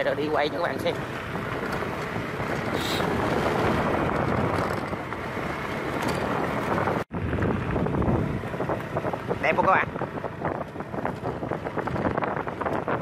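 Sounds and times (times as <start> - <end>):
motorbike engine: 0.0 - 13.0
road noise: 0.0 - 13.0
wind buffeting microphone: 0.0 - 13.0.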